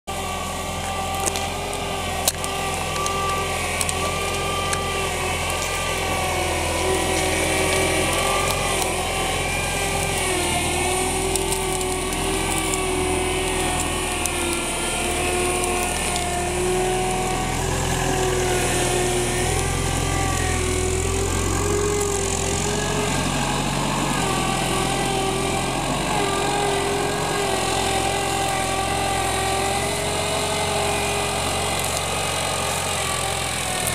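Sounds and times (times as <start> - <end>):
whine wavering in pitch: 0.1 - 30.0
forklift engine running: 0.1 - 33.9.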